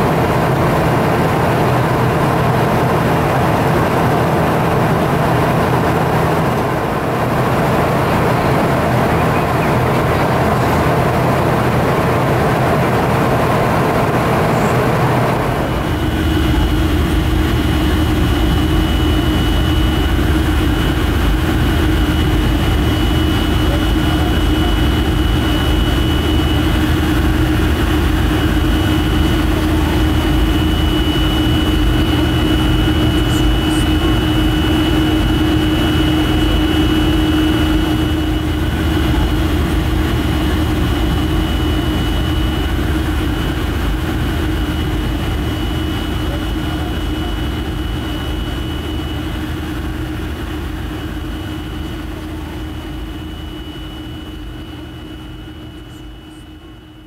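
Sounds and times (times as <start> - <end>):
engine and airflow rumble: 0.0 - 57.0
low hum: 0.0 - 57.0.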